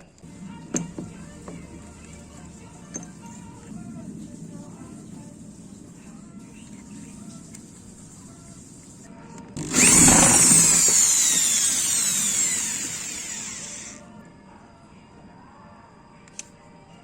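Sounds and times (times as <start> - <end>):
power tool motor whining down: 0.2 - 14.0.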